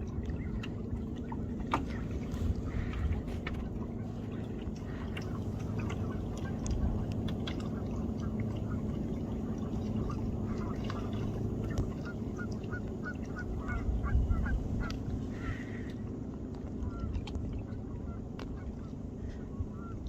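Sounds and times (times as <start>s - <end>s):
steady low rumble: 0.0s - 20.0s
waterfowl calling: 0.2s - 20.0s.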